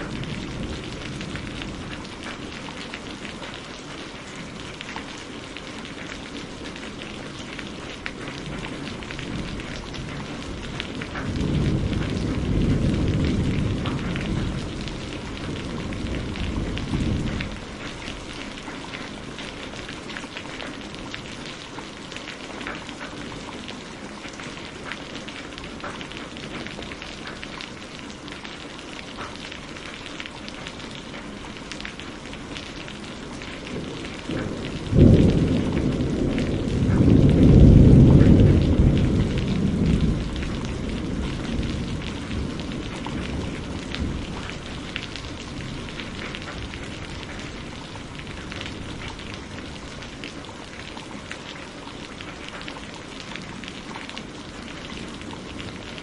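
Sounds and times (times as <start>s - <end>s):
thunder rumbling: 0.0s - 5.4s, 6.0s - 27.9s, 31.1s - 51.5s, 52.1s - 56.0s
steady rain: 0.0s - 56.0s.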